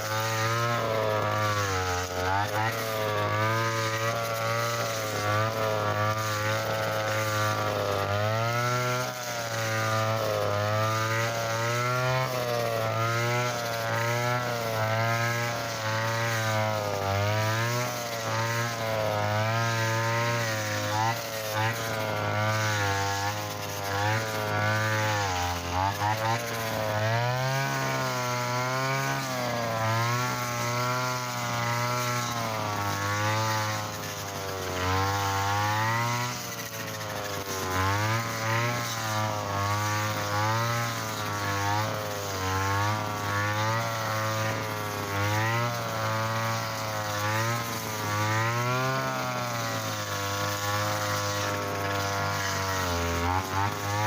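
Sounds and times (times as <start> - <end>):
brushcutter cutting thick grass: 0.0 - 54.0.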